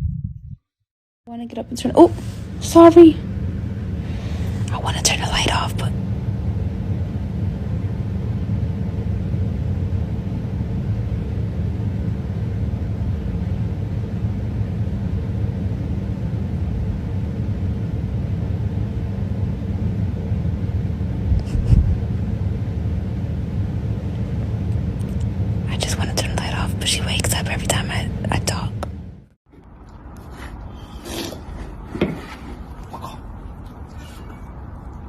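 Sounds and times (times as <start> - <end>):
steady low rumble: 0.0 - 0.6, 1.3 - 30.8.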